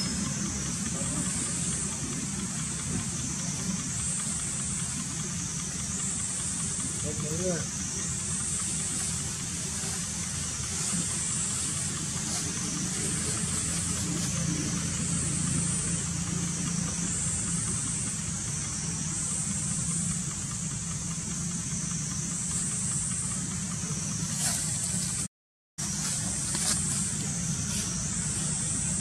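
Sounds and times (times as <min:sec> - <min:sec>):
high pulsing buzz: 0:00.0 - 0:29.0
low hum: 0:00.0 - 0:29.0.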